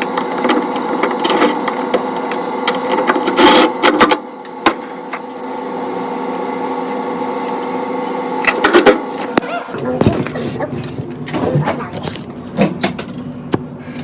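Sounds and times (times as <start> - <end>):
vending machine humming: 0.0 - 14.0.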